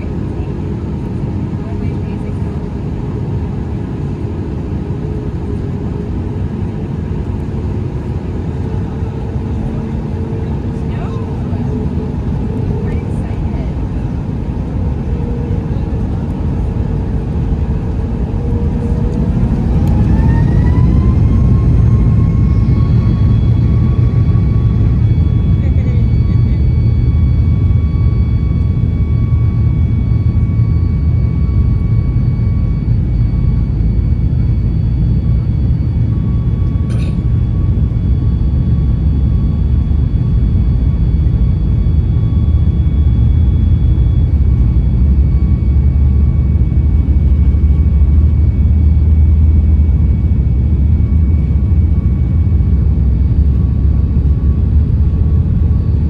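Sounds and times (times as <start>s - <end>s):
airliner cabin rumble: 0.0s - 56.0s
faint whining tones: 0.0s - 56.0s.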